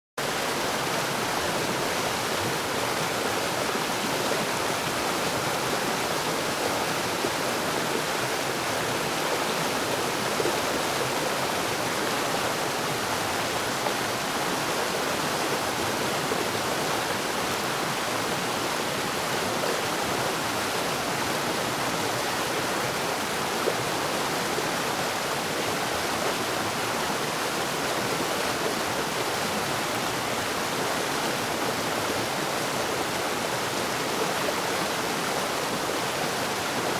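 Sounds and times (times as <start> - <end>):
rushing stream rapids: 0.2 - 36.9.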